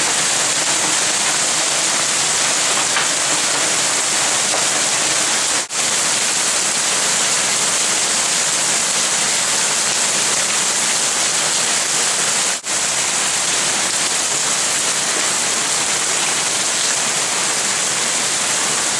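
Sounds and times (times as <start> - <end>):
hail and heavy rain pelting: 0.0 - 18.9.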